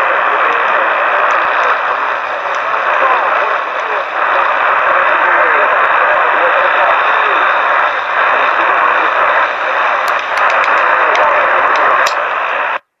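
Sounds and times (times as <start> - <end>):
radio static hiss: 0.0 - 13.0
sharp static crackles: 0.0 - 13.0.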